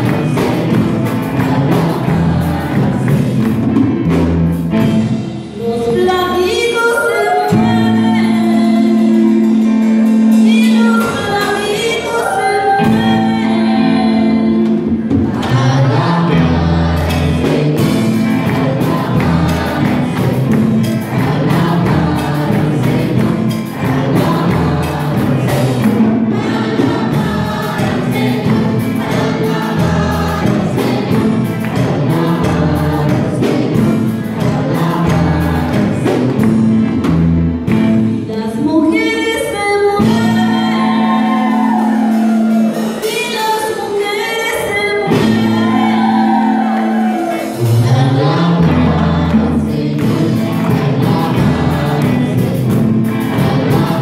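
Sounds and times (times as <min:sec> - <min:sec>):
women singing into microphones: 0:00.0 - 0:03.8, 0:05.6 - 0:09.5, 0:10.3 - 0:36.4, 0:38.2 - 0:54.0
band with bass: 0:00.0 - 0:54.0
congregation singing along: 0:00.0 - 0:54.0.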